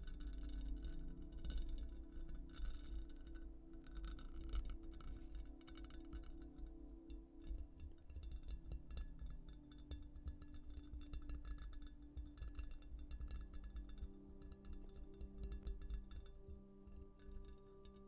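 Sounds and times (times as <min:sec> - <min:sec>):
soft ambient music: 0:00.0 - 0:18.0.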